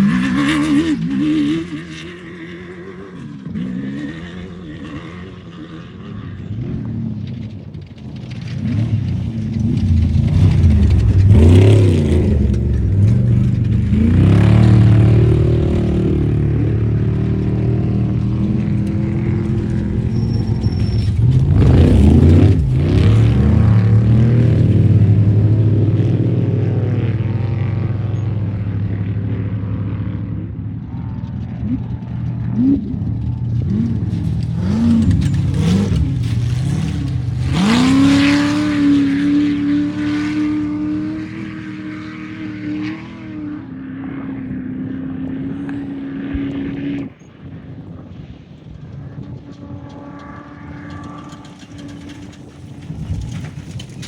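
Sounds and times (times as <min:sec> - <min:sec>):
race vehicle engines passing: 0:00.0 - 0:54.0.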